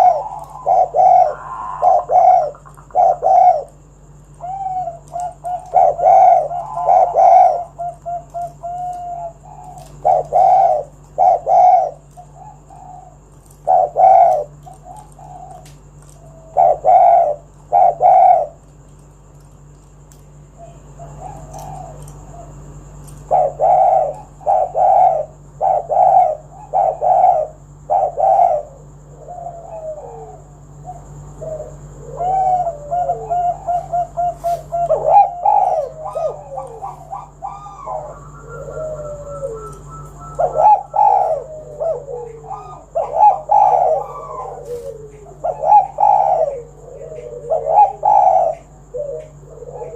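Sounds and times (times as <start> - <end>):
dove cooing: 0.0 - 49.9
faint steady hum: 0.0 - 49.9.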